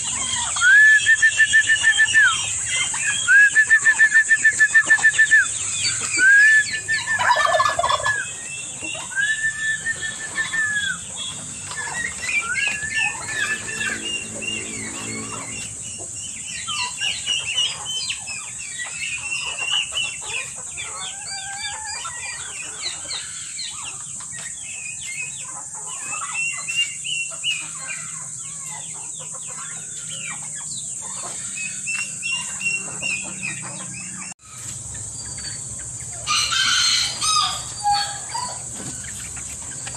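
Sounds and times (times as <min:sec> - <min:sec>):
chickens and turkeys calling: 0:00.0 - 0:39.9
chickens clucking and squawking: 0:00.0 - 0:39.9.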